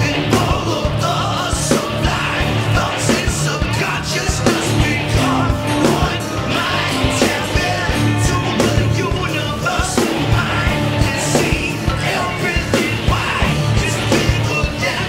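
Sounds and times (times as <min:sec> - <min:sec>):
drum kit rock beat: 0:00.0 - 0:15.0
live rock band playing: 0:00.0 - 0:15.0.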